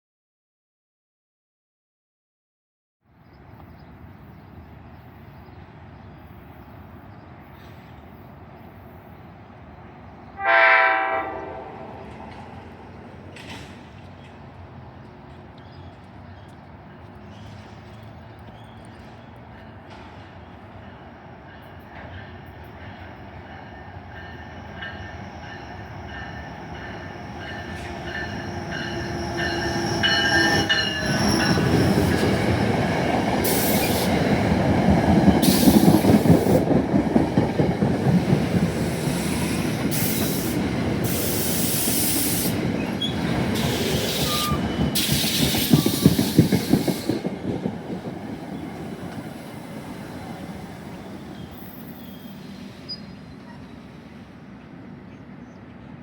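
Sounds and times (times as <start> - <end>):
train wheels rumbling on rail: 3.4 - 56.0.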